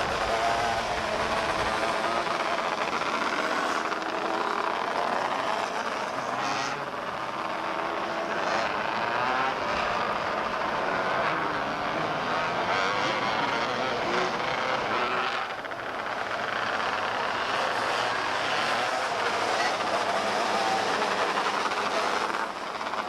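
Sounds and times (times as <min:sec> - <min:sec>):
race car engines at high revs: 0:00.0 - 0:23.0.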